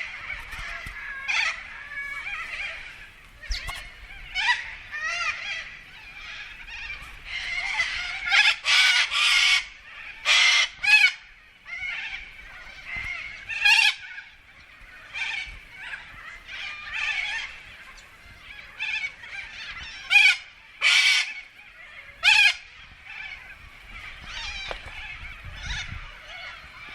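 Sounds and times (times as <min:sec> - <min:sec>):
birds honking calls: 0:00.0 - 0:26.9.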